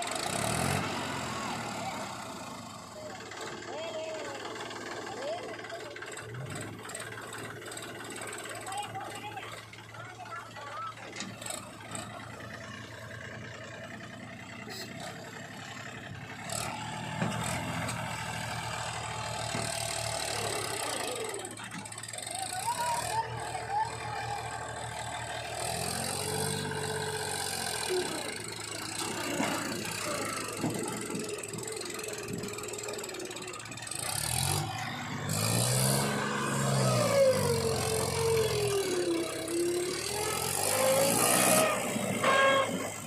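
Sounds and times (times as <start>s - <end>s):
diesel engine revving under load: 0.0s - 43.0s.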